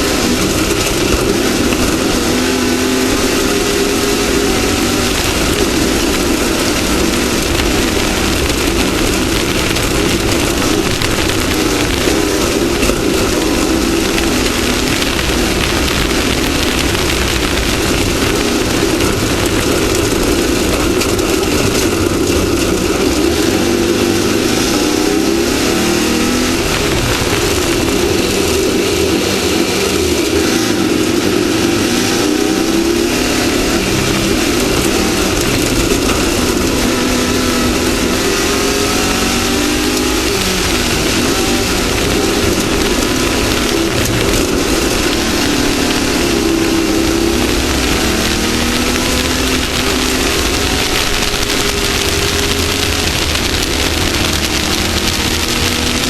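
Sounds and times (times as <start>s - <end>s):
race vehicle engine running hard: 0.0s - 56.0s
road and wind noise: 0.0s - 56.0s.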